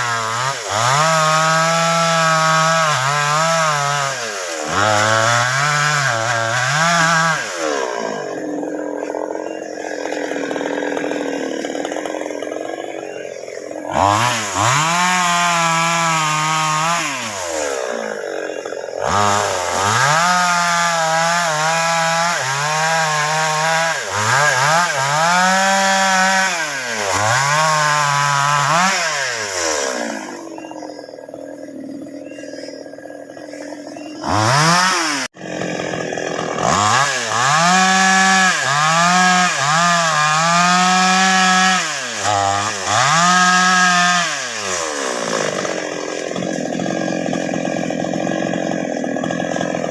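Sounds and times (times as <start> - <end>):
chainsaw revving while cutting: 0.0 - 49.9.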